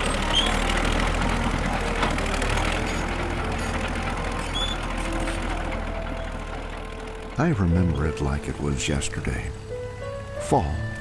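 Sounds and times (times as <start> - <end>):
crawler tractor engine droning: 0.0 - 11.0.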